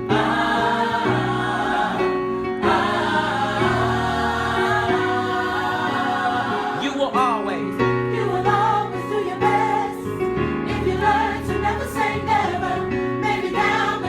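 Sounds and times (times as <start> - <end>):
gospel choir singing: 0.0 - 7.2, 7.8 - 14.0.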